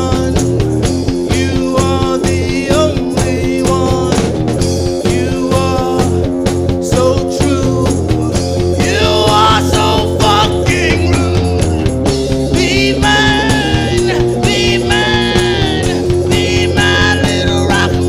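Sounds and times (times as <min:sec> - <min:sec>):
electric guitar lead line bending: 0:00.0 - 0:18.0
live rock band playing: 0:00.0 - 0:18.0.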